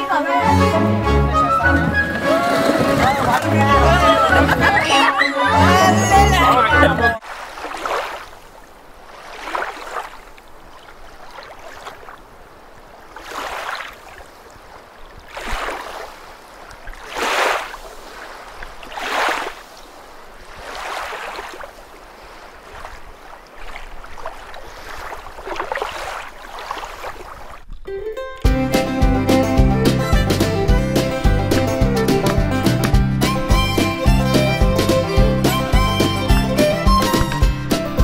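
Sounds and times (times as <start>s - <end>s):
kayak paddle swishing through water: 1.5s - 5.7s, 7.2s - 27.8s, 30.6s - 38.0s.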